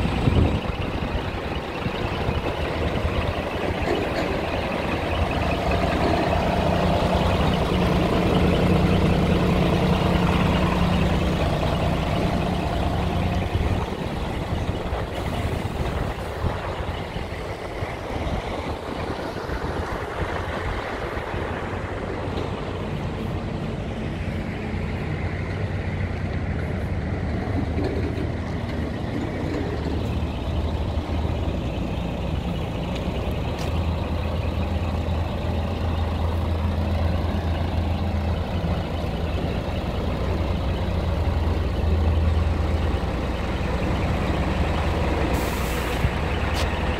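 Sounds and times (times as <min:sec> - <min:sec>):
truck diesel engine idling: 0:00.0 - 0:46.9.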